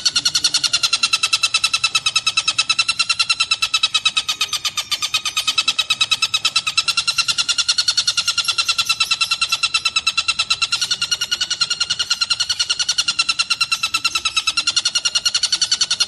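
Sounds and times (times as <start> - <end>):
kingfisher rattling trill: 0.0 - 16.0.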